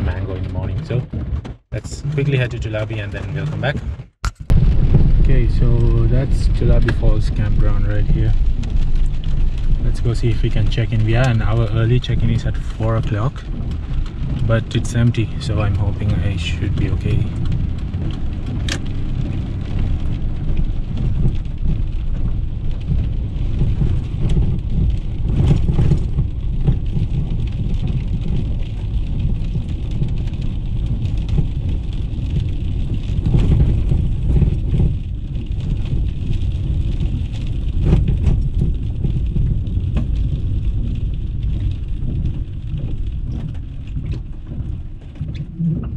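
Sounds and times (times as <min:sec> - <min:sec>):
tyres and engine rumble: 0:00.0 - 0:45.9
rain hissing on windshield: 0:01.8 - 0:03.8, 0:04.5 - 0:45.9.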